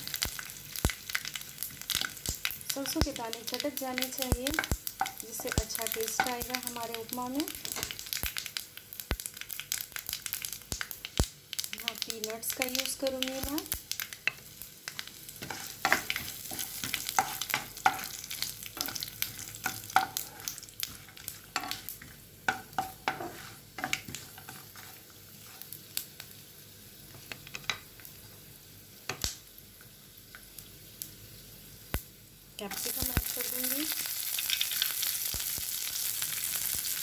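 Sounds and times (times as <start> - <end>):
oil sizzling: 0.0 - 37.0.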